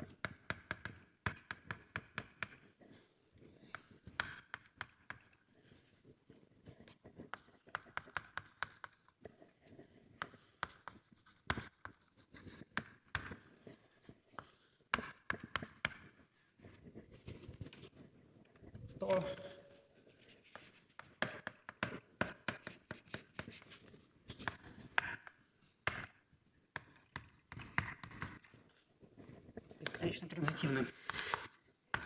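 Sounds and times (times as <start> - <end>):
chalk tapping and scratching on board: 0.0 - 32.0.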